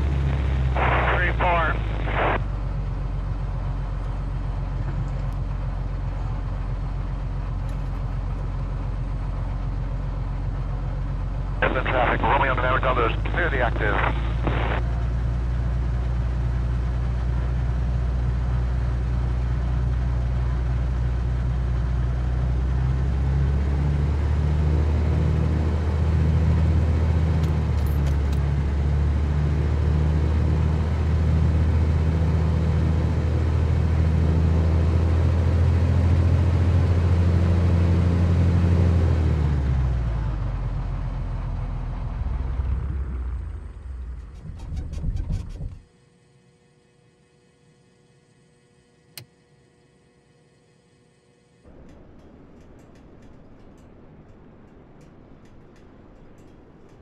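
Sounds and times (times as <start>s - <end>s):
airplane engine droning in cabin: 0.0s - 57.0s.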